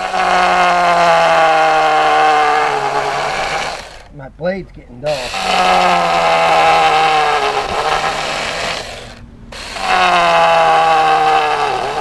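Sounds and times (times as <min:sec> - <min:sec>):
electric chainsaw cutting wood: 0:00.0 - 0:04.1, 0:05.0 - 0:12.0.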